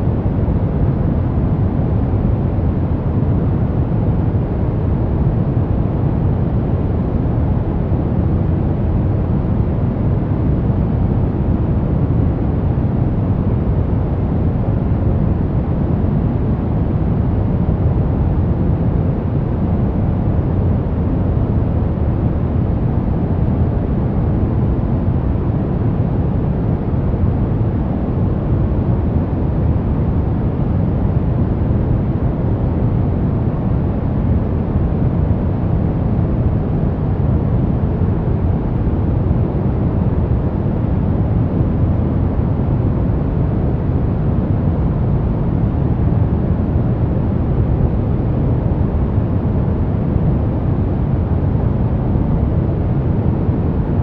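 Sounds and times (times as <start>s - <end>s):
deep white noise: 0.0s - 54.0s.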